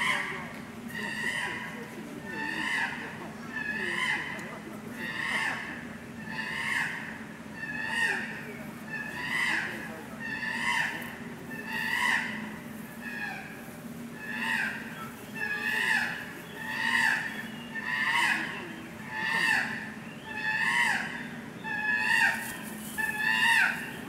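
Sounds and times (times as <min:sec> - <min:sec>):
chimpanzee calling: 0:00.0 - 0:24.0
steady low hum: 0:00.0 - 0:24.0.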